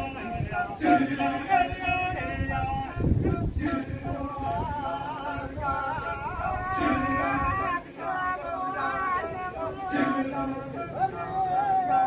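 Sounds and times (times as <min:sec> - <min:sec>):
massed vocal chorus: 0:00.0 - 0:12.0.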